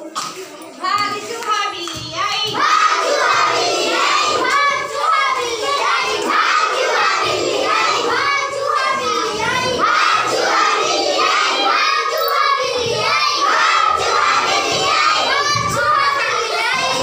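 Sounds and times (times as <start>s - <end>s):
children singing and calling out: 0.0s - 17.0s.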